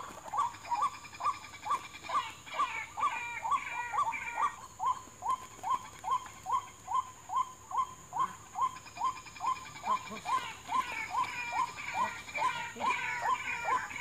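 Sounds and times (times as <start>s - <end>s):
higher harsh bird calls: 0.0s - 14.0s.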